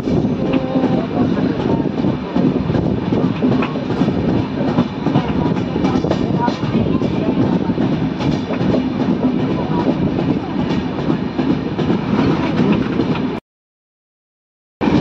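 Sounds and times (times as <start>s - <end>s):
train coach rumbling on track: 0.0s - 13.4s.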